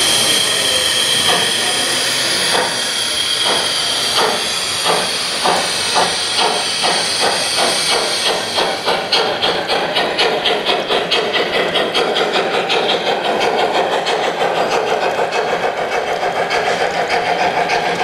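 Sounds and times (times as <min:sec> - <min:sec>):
model locomotive chuffing: 0:00.0 - 0:18.0
steam hiss: 0:00.0 - 0:18.0.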